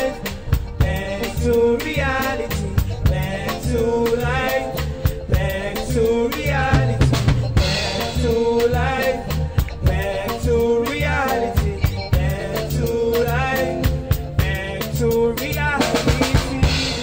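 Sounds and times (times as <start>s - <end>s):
bass guitar line: 0.0s - 17.0s
drum kit beat: 0.0s - 17.0s
keyboards: 0.0s - 17.0s
people singing: 0.0s - 17.0s.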